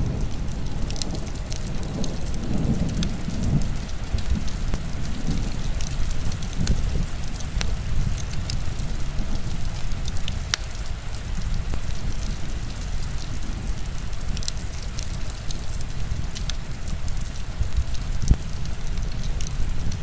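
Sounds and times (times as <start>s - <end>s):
heavy rain: 0.0s - 20.0s
wood fire crackling: 0.0s - 20.0s.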